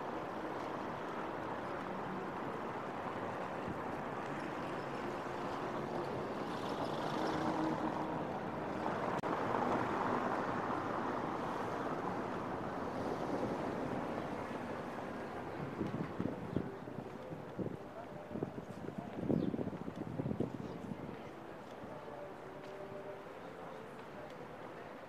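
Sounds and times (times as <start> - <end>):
traffic noise: 0.0 - 25.0.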